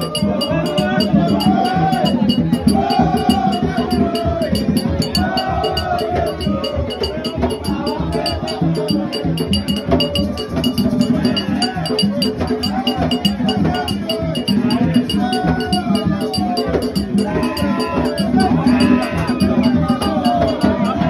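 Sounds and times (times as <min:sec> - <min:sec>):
drums: 0:00.0 - 0:21.0
metallic clinking beat: 0:00.0 - 0:21.0
voices singing: 0:00.0 - 0:21.0.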